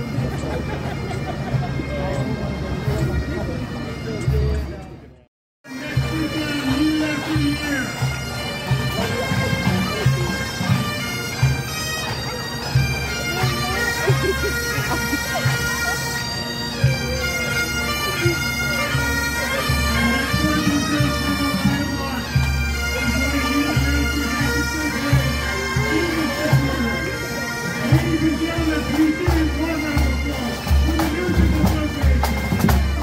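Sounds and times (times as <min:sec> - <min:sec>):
bagpipe band playing: 0:00.0 - 0:33.0.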